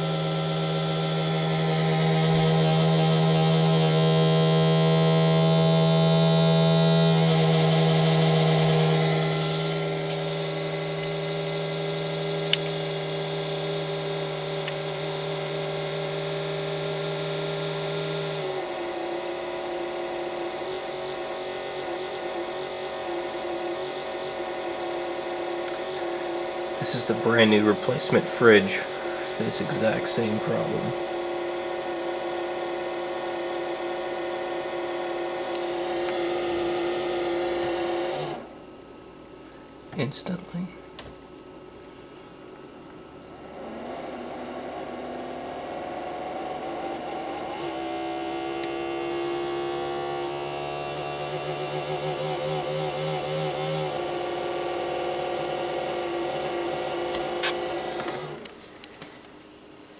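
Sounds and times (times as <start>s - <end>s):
refrigerator fan humming: 0.0s - 59.9s.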